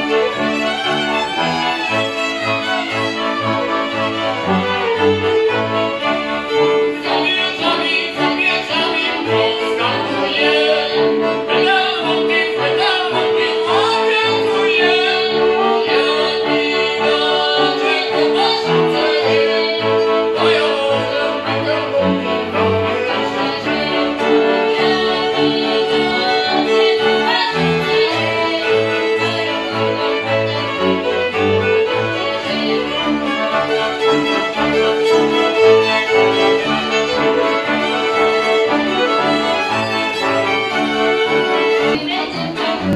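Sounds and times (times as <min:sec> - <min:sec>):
accordion: 0:00.0 - 0:42.9
bowed cello bass line: 0:00.0 - 0:42.9
fiddles playing melody: 0:00.0 - 0:42.9.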